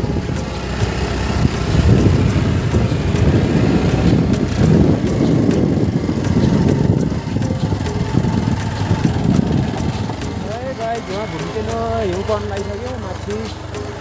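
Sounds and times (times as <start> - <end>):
motorcycle rumbling: 0.0 - 14.0
sharp clicks and rattles: 0.0 - 14.0.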